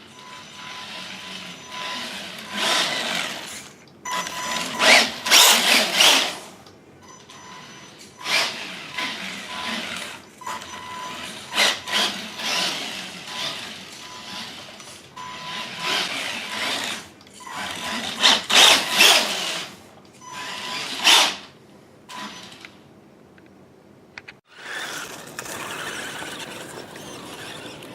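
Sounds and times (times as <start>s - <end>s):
toy car electric motor whining: 0.2s - 6.5s, 7.3s - 21.5s, 24.5s - 27.9s.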